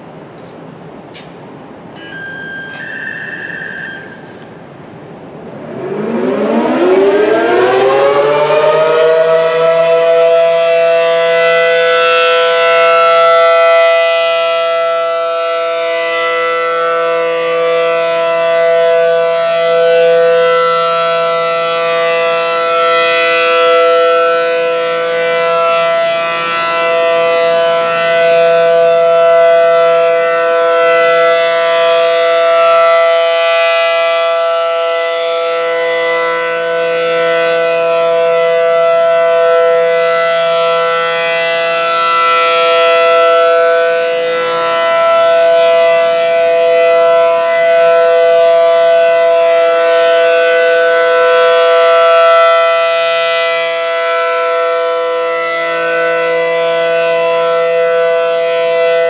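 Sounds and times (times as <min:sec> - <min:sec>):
warning siren steady tone: 0:01.8 - 0:59.0.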